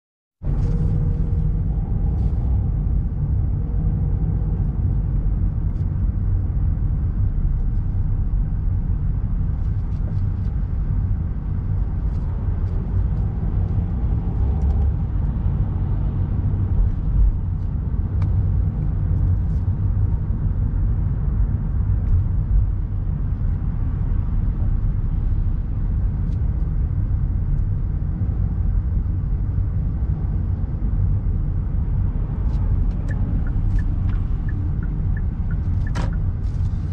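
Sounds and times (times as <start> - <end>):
car road rumble inside cabin: 0.4 - 36.9.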